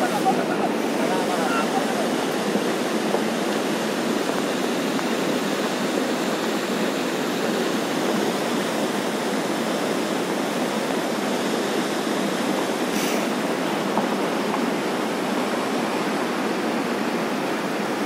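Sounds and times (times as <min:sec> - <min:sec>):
mountain stream rushing: 0:00.0 - 0:18.0.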